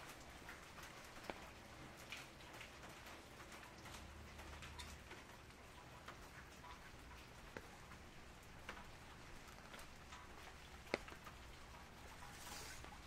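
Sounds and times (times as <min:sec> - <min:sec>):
light rain hiss: 0:00.0 - 0:13.0
raindrops tapping on umbrella: 0:00.0 - 0:13.0.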